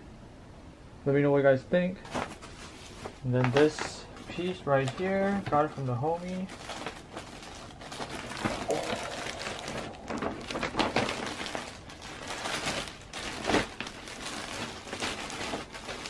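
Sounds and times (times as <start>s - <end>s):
plastic bags rustling: 2.0s - 16.0s.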